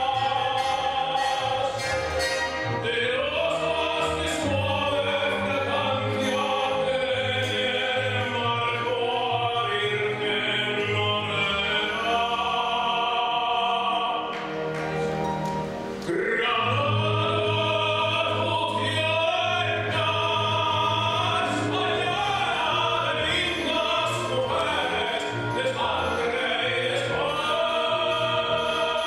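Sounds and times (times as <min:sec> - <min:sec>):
classical orchestral music: 0:00.0 - 0:29.0
operatic singing: 0:00.0 - 0:29.0.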